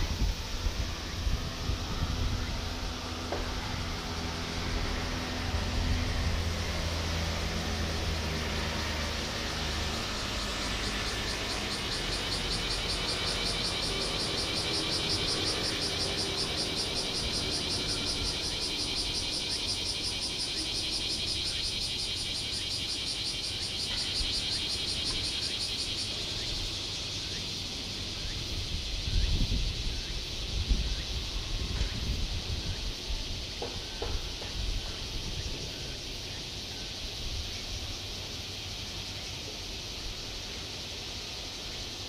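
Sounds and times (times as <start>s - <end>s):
cicadas singing: 0.0s - 42.0s.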